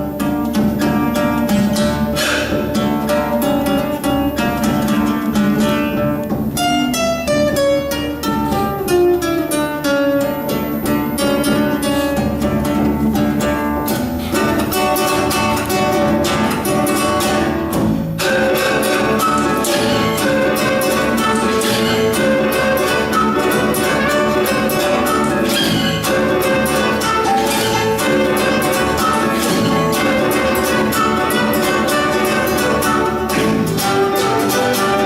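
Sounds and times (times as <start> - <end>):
guitar plucking and strumming: 0.0 - 35.0.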